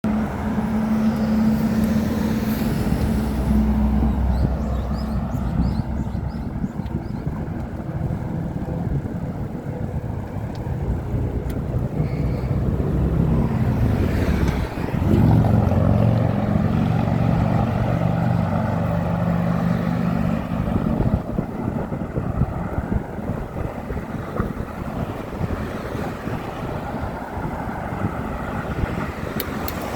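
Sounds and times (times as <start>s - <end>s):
traffic passing: 0.0s - 29.9s
vehicle engine hum: 0.0s - 29.9s.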